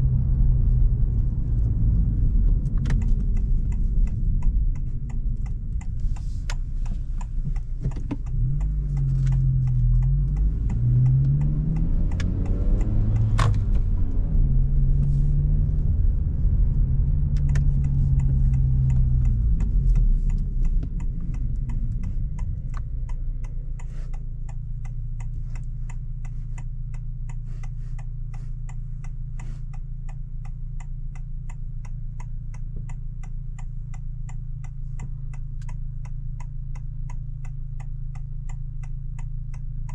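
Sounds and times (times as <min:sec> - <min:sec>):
car engine accelerating through gears: 0:00.0 - 0:39.9
car engine idling: 0:00.0 - 0:39.9
turn signal clicking: 0:00.0 - 0:39.9.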